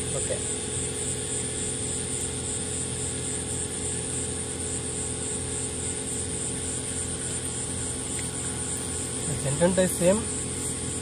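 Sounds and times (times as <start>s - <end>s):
insects chirring: 0.0s - 11.0s
low constant hum: 0.0s - 11.0s.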